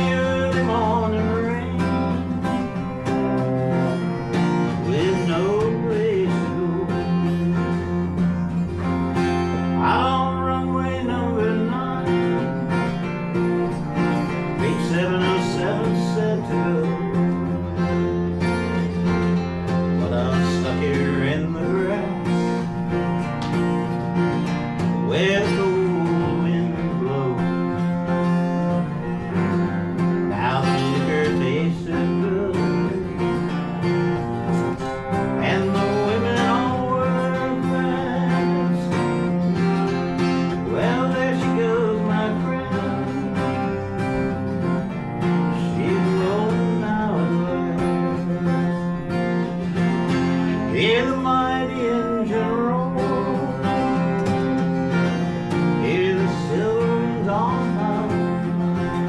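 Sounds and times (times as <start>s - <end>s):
acoustic guitar accompaniment: 0.0s - 59.0s
sliding lead melody: 0.0s - 59.0s.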